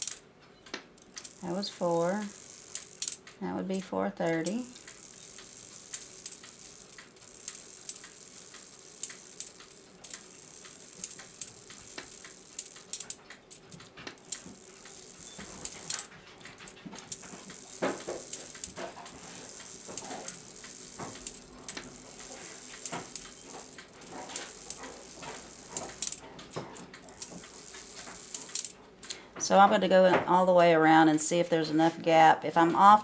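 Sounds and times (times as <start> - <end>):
clock movement clicking: 0.0 - 33.0.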